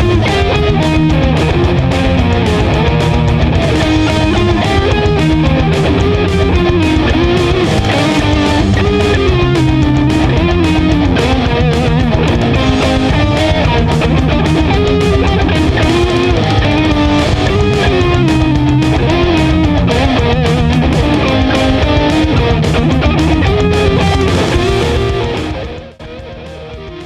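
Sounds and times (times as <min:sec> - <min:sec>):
rock music with electric guitar: 0:00.0 - 0:27.0.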